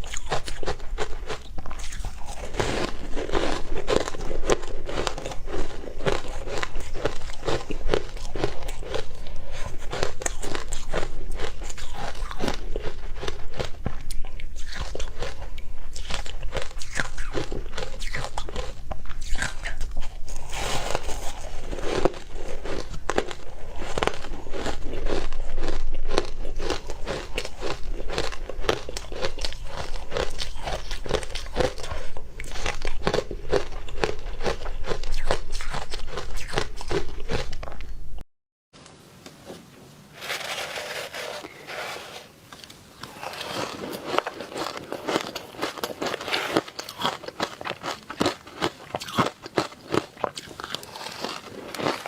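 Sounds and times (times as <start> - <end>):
ice being chewed: 0.0 - 38.0, 40.3 - 52.0.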